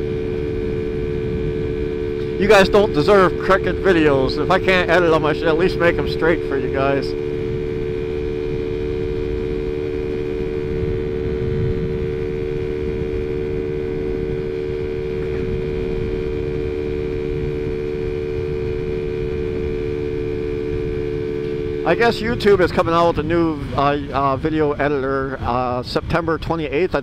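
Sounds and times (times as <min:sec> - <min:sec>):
road rumble: 0:00.0 - 0:27.0
scooter engine running: 0:00.0 - 0:27.0
wind on microphone: 0:00.0 - 0:27.0.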